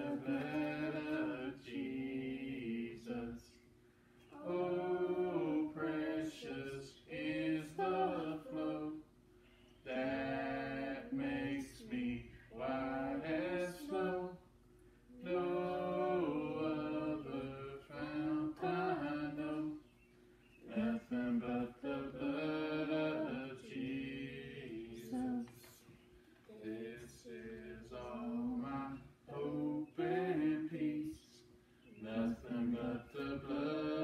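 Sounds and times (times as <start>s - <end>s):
unaccompanied hymn singing: 0.0s - 34.0s.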